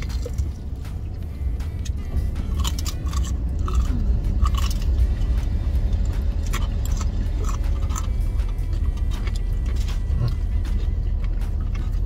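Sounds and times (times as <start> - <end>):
crunchy food being chewed: 0.0 - 0.8, 1.8 - 12.0
steady low hum: 0.0 - 12.0.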